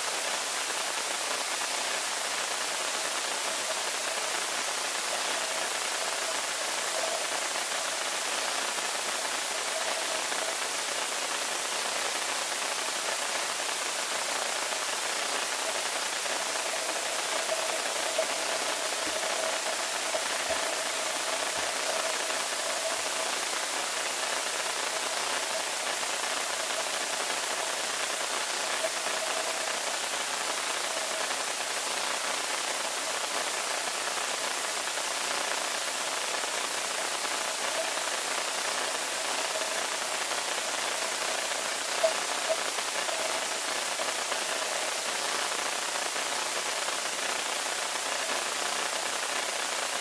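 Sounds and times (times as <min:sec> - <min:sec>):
underwater hiss: 0:00.0 - 0:50.0.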